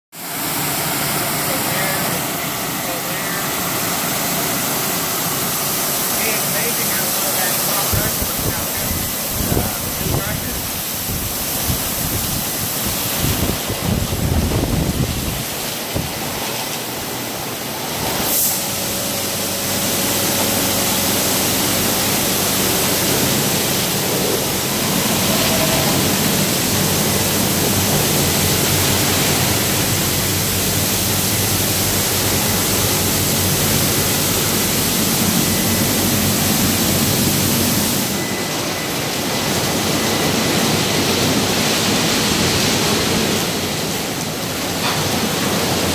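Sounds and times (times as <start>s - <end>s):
low machine hum: 0.2s - 45.9s
water jets spraying: 0.2s - 45.9s
rotating wash brushes scrubbing: 0.4s - 17.1s, 17.8s - 38.2s.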